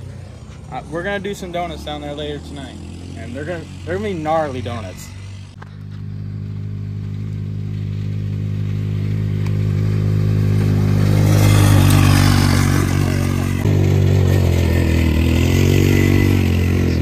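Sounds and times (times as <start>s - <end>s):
go-kart engine running hard: 0.0s - 17.0s.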